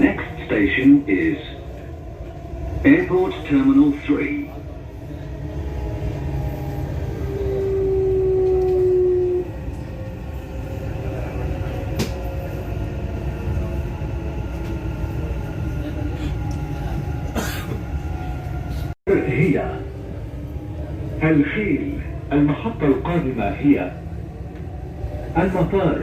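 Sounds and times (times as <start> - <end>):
train rumble inside carriage: 0.0 - 26.0.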